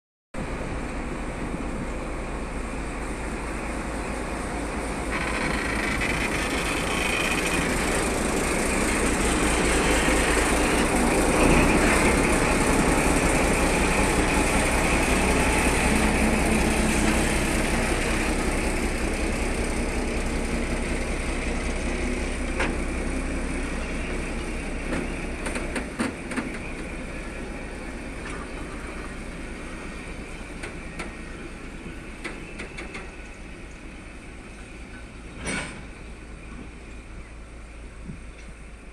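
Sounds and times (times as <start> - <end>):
diesel locomotives running: 0.4 - 38.9.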